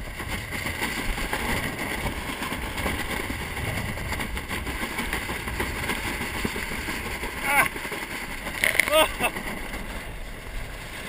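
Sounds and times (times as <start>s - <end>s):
water splashing along hull: 0.0s - 11.0s
wind on microphone: 0.0s - 11.0s.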